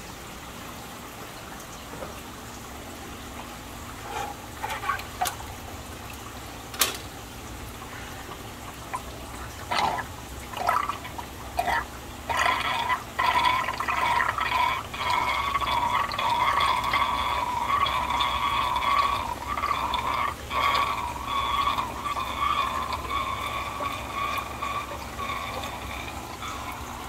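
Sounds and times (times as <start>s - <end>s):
water running into aquarium: 0.0s - 27.0s.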